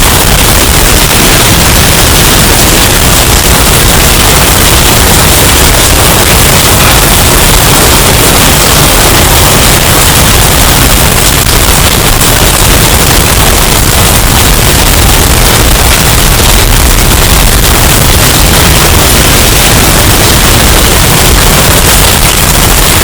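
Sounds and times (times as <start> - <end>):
distorted hurricane wind roar: 0.0 - 23.0.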